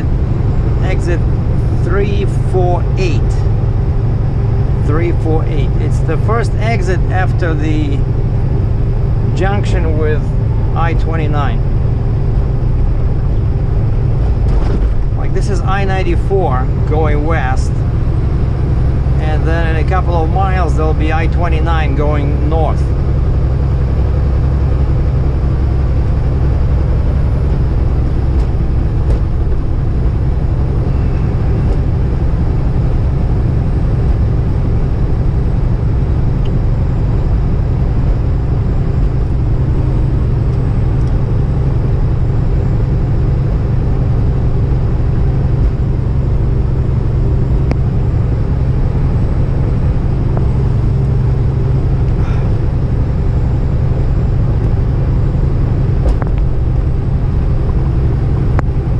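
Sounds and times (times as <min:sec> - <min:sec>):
truck engine and road noise: 0:00.0 - 0:58.9.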